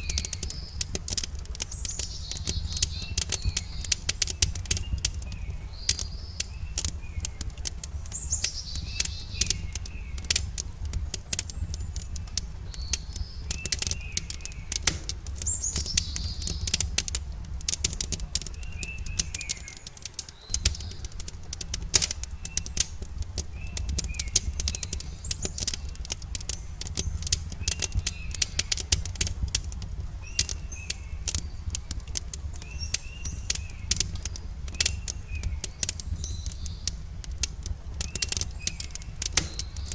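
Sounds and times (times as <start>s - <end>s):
campfire crackling and popping: 0.0s - 39.9s
songbirds chirping and trilling: 0.0s - 39.9s.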